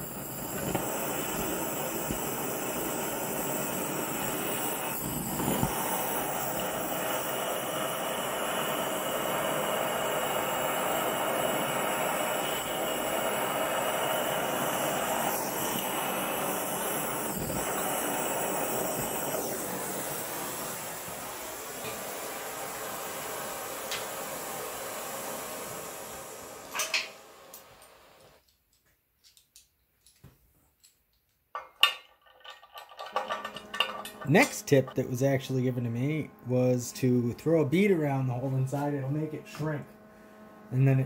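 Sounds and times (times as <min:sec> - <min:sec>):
propane torch hissing: 0:00.0 - 0:28.4, 0:32.4 - 0:41.0.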